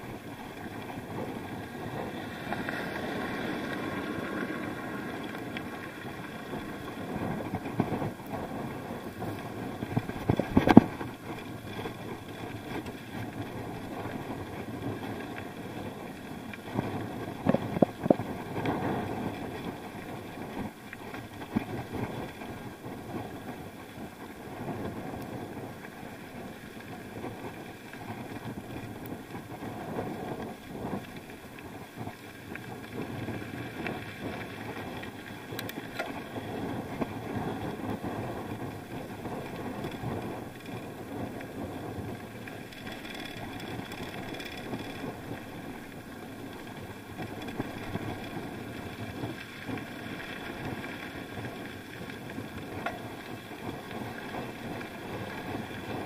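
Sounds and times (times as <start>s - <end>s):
bike riding rumble: 0.0s - 56.0s.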